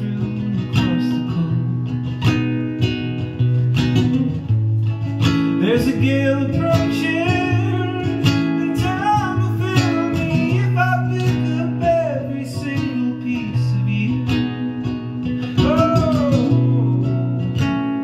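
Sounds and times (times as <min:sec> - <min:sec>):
man singing: 0:00.0 - 0:02.3, 0:05.3 - 0:18.0
acoustic guitar strumming: 0:00.0 - 0:18.0.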